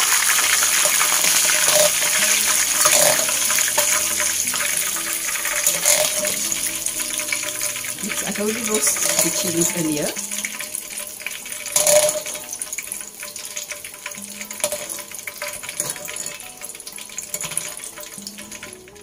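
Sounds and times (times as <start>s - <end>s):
chilies sizzling in hot oil: 0.0s - 19.0s.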